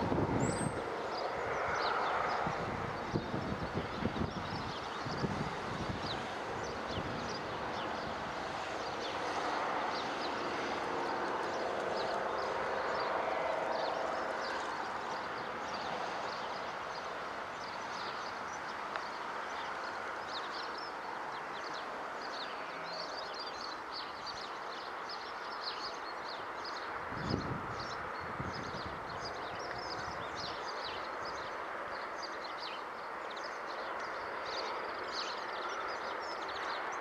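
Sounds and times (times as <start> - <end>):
small birds chirping: 0.3 - 37.0.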